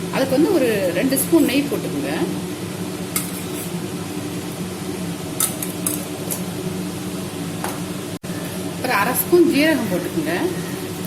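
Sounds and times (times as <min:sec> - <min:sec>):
kitchen fan humming: 0:00.0 - 0:11.0.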